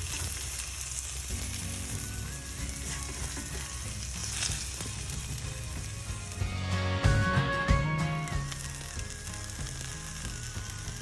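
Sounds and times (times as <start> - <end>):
food sizzling in a pan: 0.0 - 6.4, 8.3 - 11.0
faint background music: 0.0 - 11.0.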